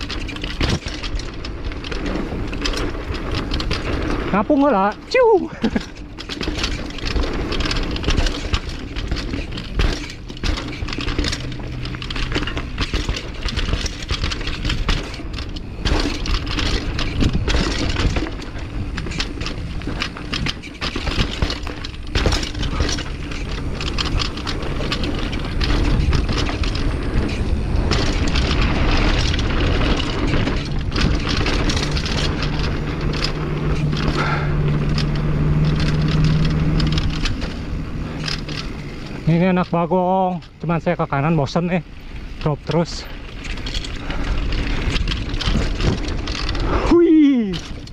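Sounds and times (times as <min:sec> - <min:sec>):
sharp knocks over bumps: 0:00.0 - 0:41.8, 0:42.4 - 0:47.9
mountain bike rattling: 0:00.0 - 0:47.9
tyre rumble: 0:00.0 - 0:47.9.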